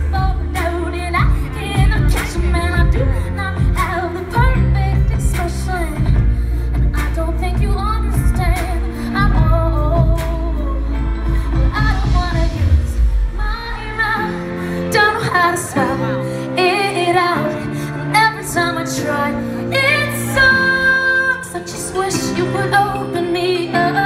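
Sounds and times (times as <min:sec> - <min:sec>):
band playing: 0:00.0 - 0:24.0
woman singing pop live: 0:00.0 - 0:24.0.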